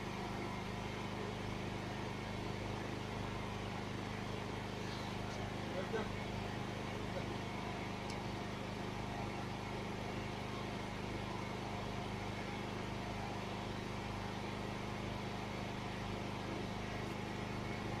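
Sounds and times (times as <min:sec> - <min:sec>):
mechanical hum with low rumble: 0:00.0 - 0:18.0.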